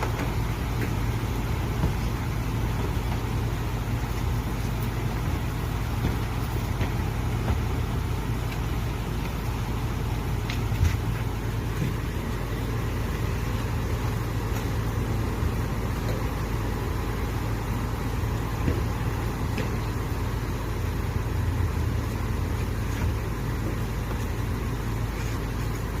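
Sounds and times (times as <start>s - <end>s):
car wash rushing: 0.0s - 26.0s
low even hum: 0.0s - 26.0s.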